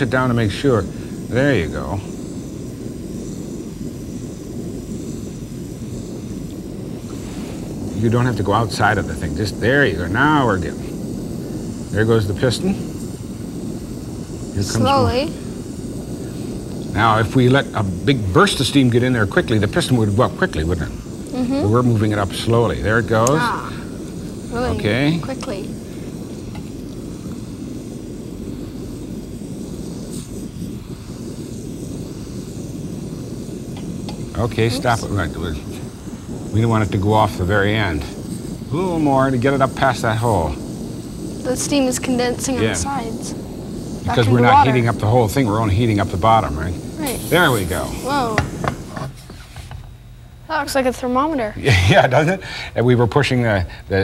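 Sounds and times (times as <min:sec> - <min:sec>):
stove flame rumbling: 0:00.0 - 0:54.0.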